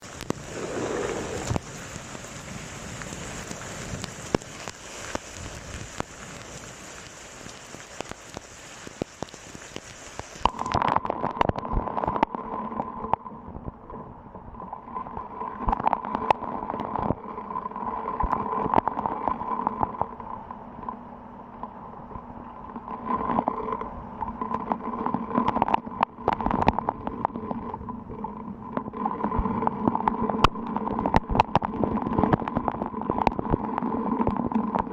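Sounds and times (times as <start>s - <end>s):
rain falling: 0.0s - 34.9s.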